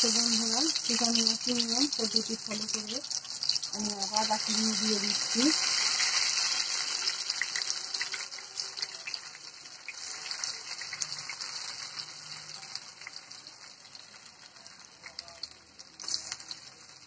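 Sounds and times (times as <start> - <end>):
oil popping and crackling: 0.0 - 17.0
potatoes sizzling in hot oil: 0.0 - 17.0.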